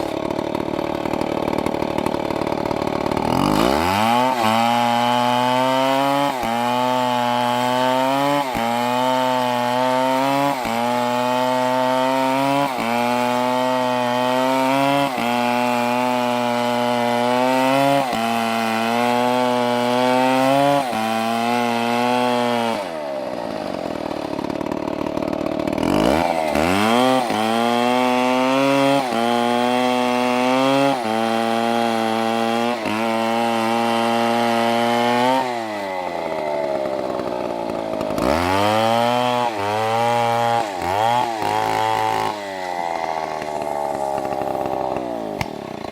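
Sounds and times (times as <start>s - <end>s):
chainsaw running at high revs: 0.0s - 45.9s.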